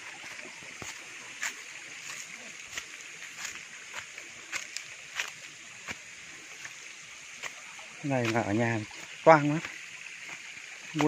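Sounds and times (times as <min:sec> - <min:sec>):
footsteps on dry leaves: 0:00.0 - 0:11.0
steady high hiss: 0:00.0 - 0:11.0.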